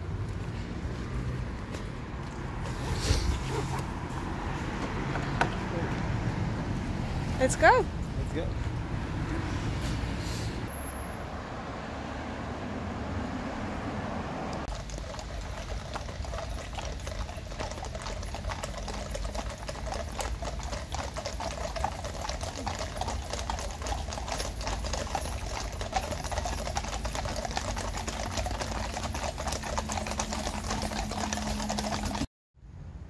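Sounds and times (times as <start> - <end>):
horse hooves on wet road: 0.2 - 8.7, 13.9 - 32.3.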